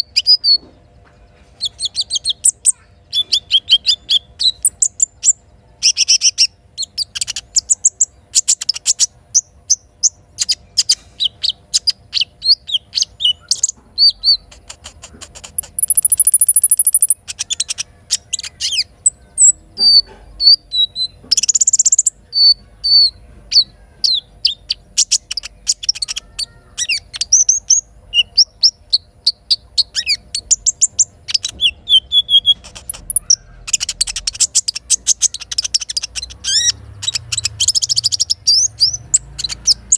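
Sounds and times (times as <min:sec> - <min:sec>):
high buzzy bird trill: 0:01.4 - 0:39.9
bird chirping and whistling: 0:01.6 - 0:39.9.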